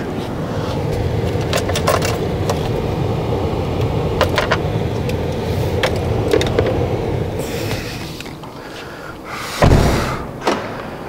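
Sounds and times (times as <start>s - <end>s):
electric car humming: 0.0s - 11.0s.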